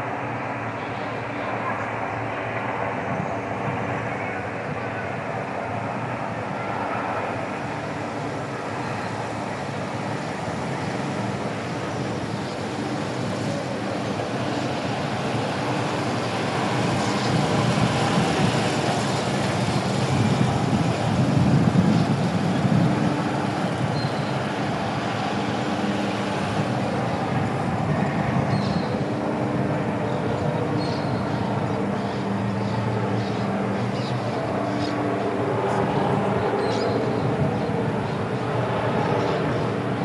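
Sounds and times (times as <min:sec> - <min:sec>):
vehicles passing: 0:00.0 - 0:40.0.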